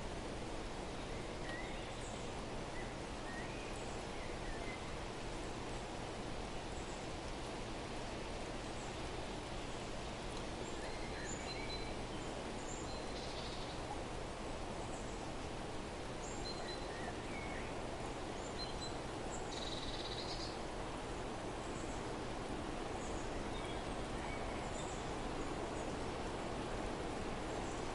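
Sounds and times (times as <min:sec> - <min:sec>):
small songbirds chirping: 0:00.8 - 0:07.2, 0:08.4 - 0:27.9.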